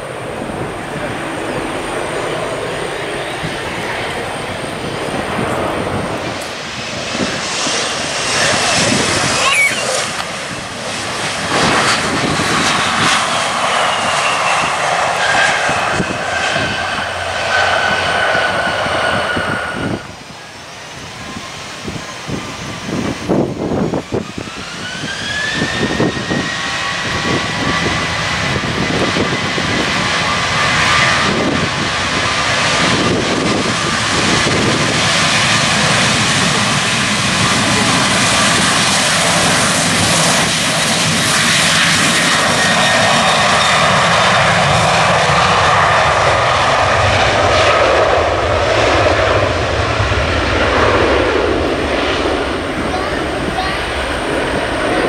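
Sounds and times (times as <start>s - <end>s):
jet airliner taking off: 0.0s - 55.0s.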